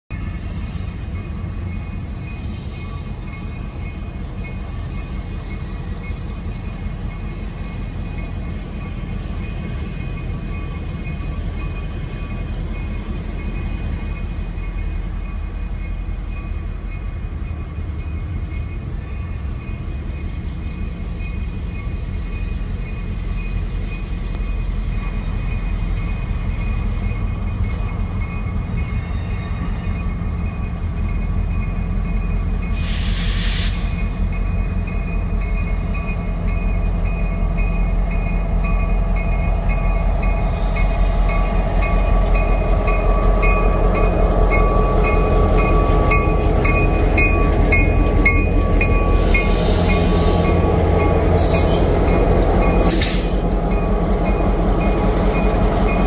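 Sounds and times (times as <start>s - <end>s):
locomotive engine rumbling: 0.1s - 56.0s.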